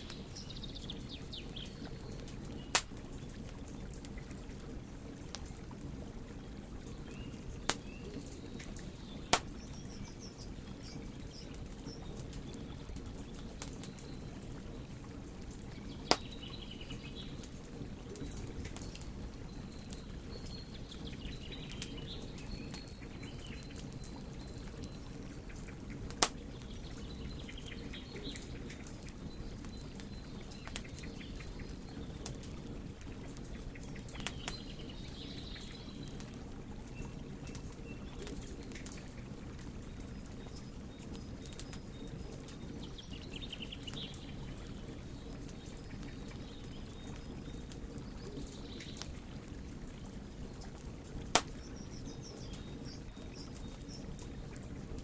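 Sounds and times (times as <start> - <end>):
burning wood popping: 0.0 - 55.0
wood fire crackling: 0.0 - 55.0.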